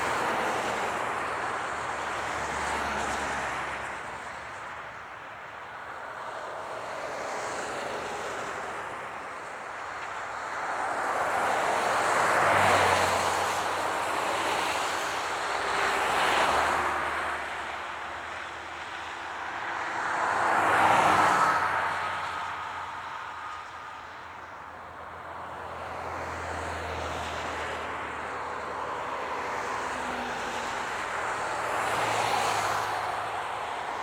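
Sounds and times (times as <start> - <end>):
highway traffic passing: 0.0 - 34.0.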